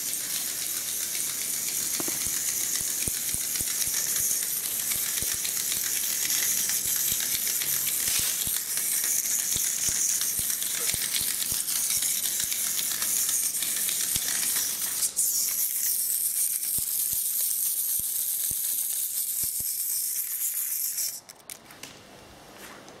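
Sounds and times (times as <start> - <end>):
toy motor whirring: 0.0 - 21.6.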